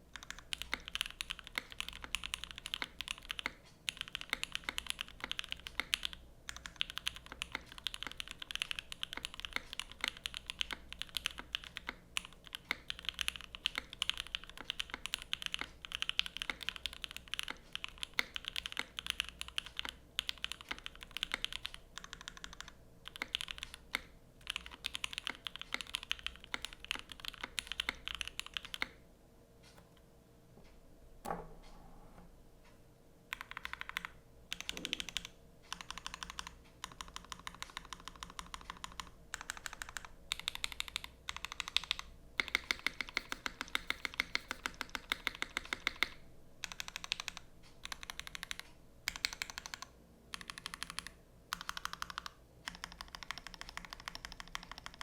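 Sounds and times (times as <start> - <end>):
fast typing on mechanical keyboard: 0.1 - 29.0, 33.3 - 55.0.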